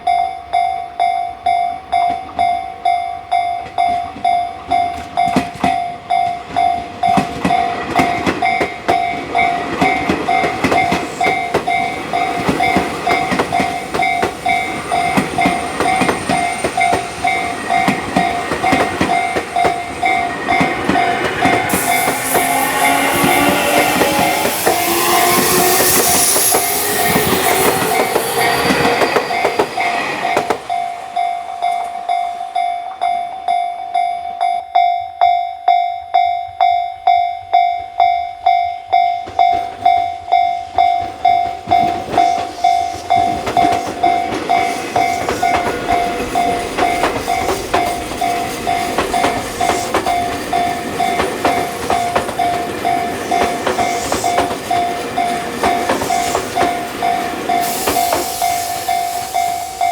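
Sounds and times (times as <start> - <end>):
train rumble and wheel clatter: 0.0 - 34.5, 36.6 - 59.9
level crossing alarm clanging: 0.0 - 59.9.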